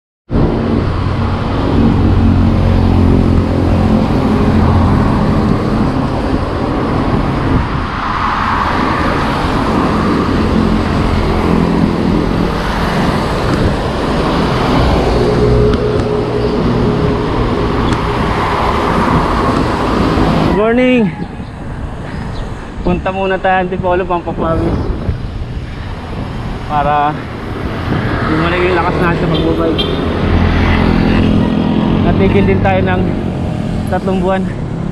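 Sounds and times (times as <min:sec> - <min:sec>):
road traffic noise: 0:00.3 - 0:34.9
vehicles passing: 0:00.3 - 0:34.9.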